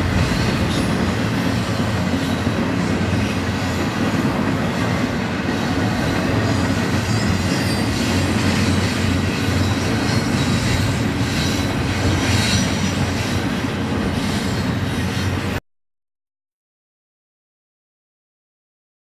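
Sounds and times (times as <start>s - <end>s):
train wheels rolling on rails: 0.0s - 15.6s.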